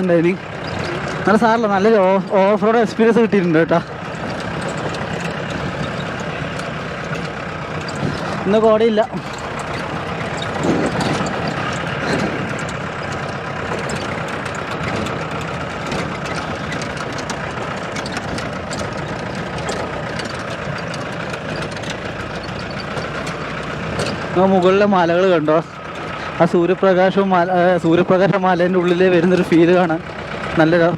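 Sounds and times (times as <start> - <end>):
body rattles and knocks: 0.0 - 30.6
jeep engine running: 0.0 - 30.9.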